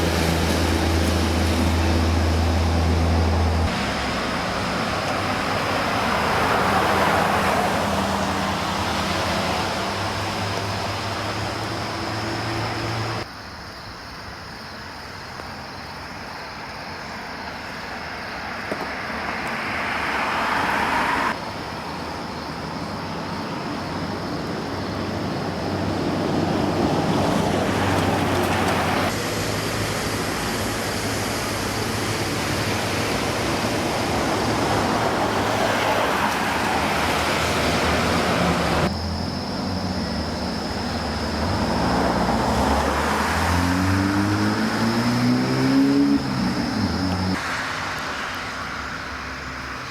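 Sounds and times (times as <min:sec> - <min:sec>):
cars driving through water: 0:00.0 - 0:13.3, 0:17.0 - 0:49.9.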